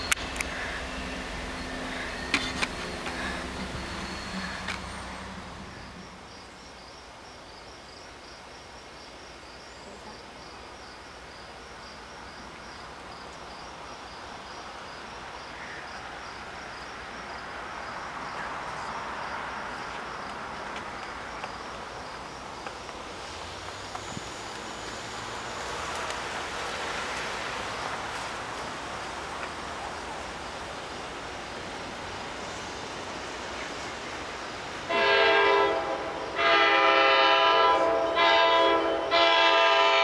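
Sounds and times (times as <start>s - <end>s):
insect chirping: 0.0s - 34.9s
outdoor hiss: 0.0s - 40.0s.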